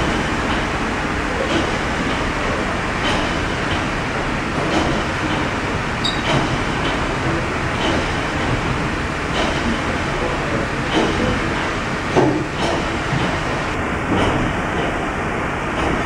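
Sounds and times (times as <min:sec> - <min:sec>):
steam engine clatter: 0:00.0 - 0:16.0.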